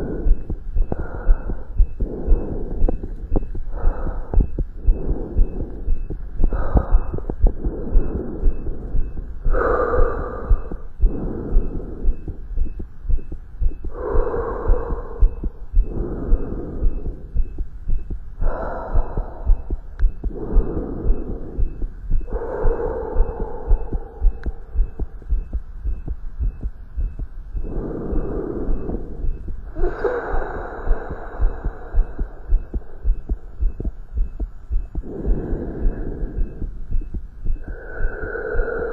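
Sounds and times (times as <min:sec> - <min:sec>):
breath noise rush: 0:00.0 - 0:38.9
fast heartbeat: 0:00.0 - 0:38.9.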